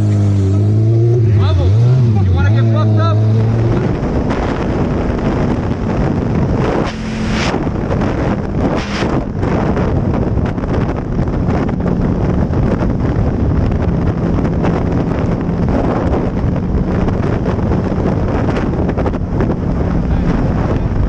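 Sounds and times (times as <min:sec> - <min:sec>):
motorcycle engine humming: 0:00.0 - 0:21.0
wind buffeting microphone: 0:00.0 - 0:21.0.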